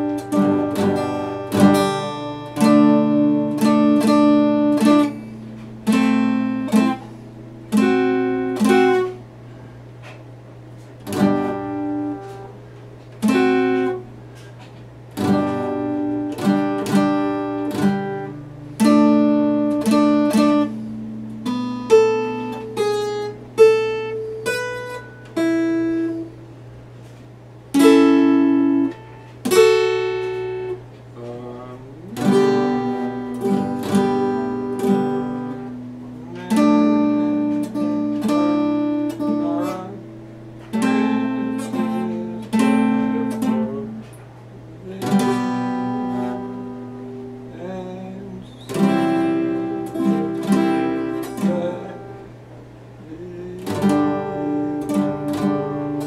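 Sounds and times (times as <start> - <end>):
acoustic guitar strummed chords: 0.0 - 56.0
picked guitar notes: 0.0 - 56.0.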